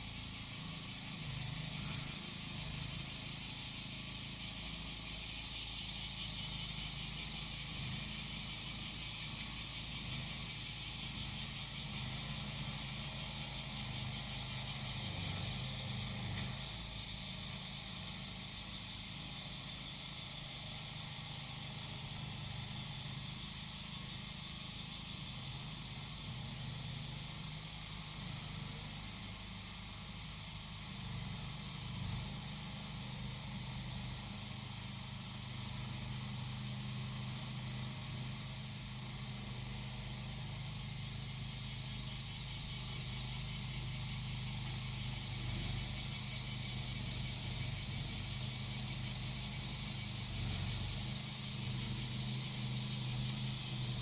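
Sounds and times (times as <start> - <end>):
cicadas singing: 0.0 - 54.0
grass cutter engine droning: 0.0 - 54.0.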